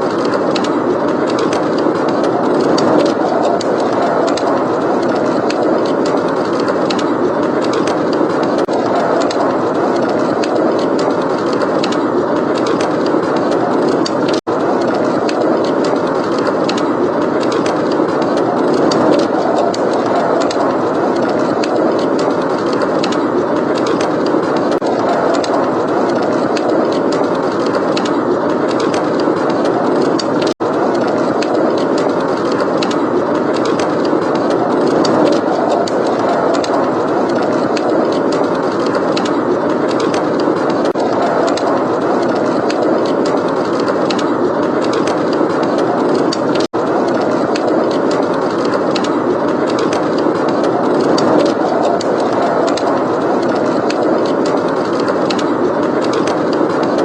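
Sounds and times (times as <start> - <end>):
blizzard wind blowing hard: 0.0 - 57.0.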